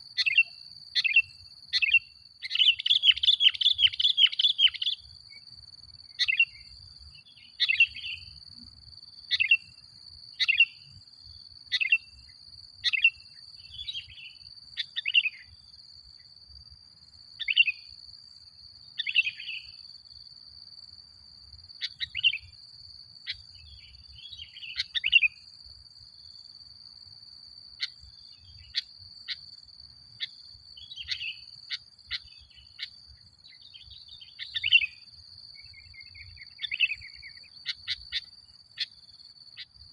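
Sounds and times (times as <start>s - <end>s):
bird chirping: 0.0s - 16.4s, 17.0s - 18.2s, 18.8s - 19.9s, 21.7s - 22.6s, 23.2s - 25.6s, 27.5s - 39.9s
high insect-like tone: 0.0s - 39.9s.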